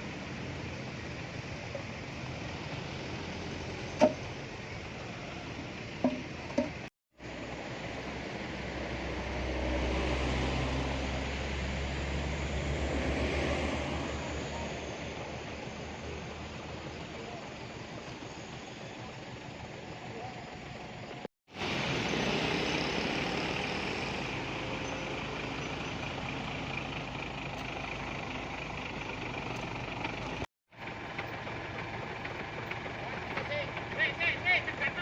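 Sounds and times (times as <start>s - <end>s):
truck engine running: 0.0s - 9.9s, 13.8s - 35.0s.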